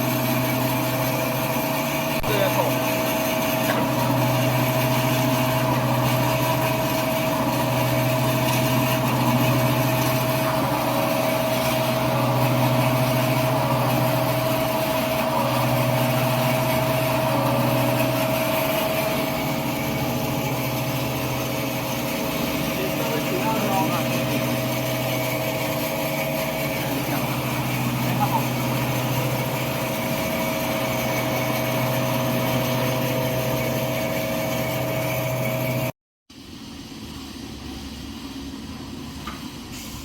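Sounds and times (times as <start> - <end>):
band saw machine humming: 0.0 - 35.9.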